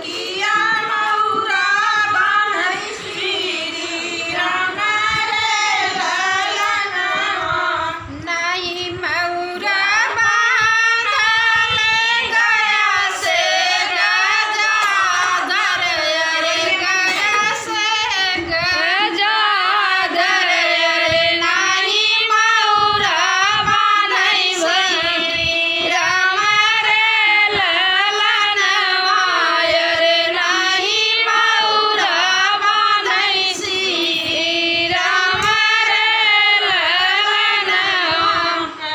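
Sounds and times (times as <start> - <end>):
women singing folk song: 0.0 - 38.9.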